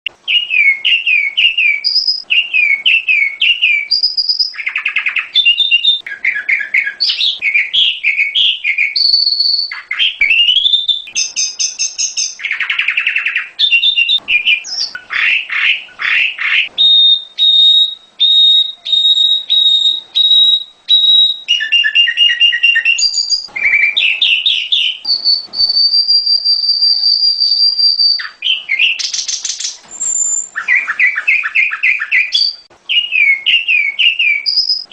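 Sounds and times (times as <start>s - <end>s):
bird song chirps and trills: 0.2s - 34.9s
long held bird whistle: 0.2s - 34.9s.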